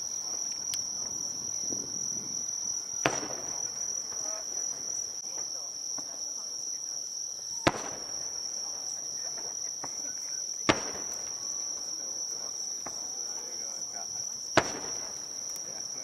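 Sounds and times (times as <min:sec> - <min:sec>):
firework shells bursting: 0:00.0 - 0:06.1, 0:07.6 - 0:13.6, 0:14.4 - 0:16.0
insects chirring: 0:00.0 - 0:16.0.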